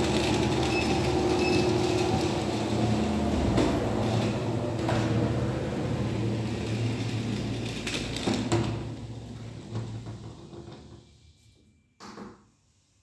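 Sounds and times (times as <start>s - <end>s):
treadmill motor humming: 0.0s - 10.9s.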